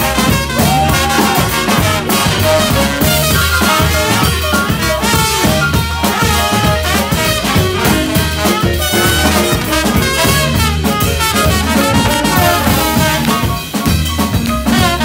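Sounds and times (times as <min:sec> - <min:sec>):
drum kit beat: 0:00.0 - 0:15.0
horn section: 0:00.0 - 0:15.0
soul band playing: 0:00.0 - 0:15.0.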